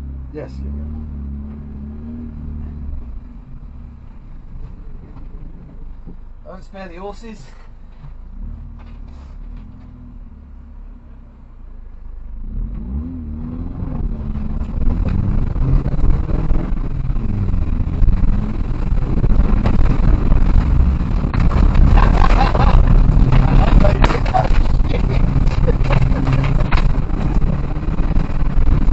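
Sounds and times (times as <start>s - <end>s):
car engine revving: 0.0s - 28.9s
rush of road noise: 0.0s - 28.9s.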